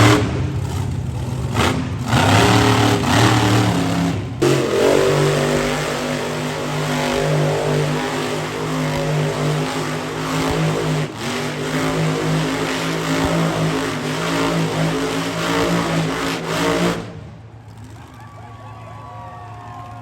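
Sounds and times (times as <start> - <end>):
monster truck engine revving: 0.0 - 18.2.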